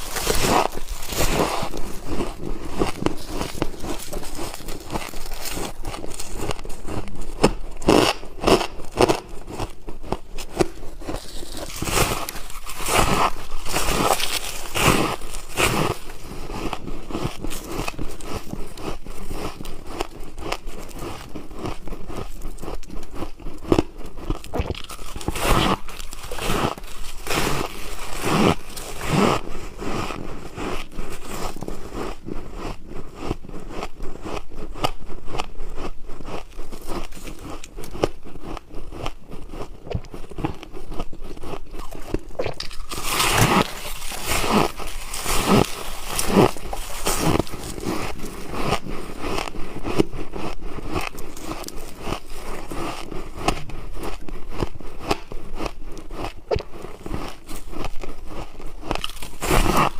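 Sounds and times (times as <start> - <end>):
chewing hard ice crunches: 0.0 - 59.9.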